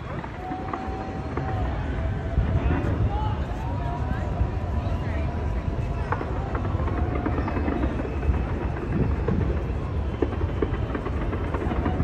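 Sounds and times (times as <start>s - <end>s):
fireworks pops and crackles: 0.0s - 12.0s
fireworks rumbling bangs: 0.0s - 12.0s.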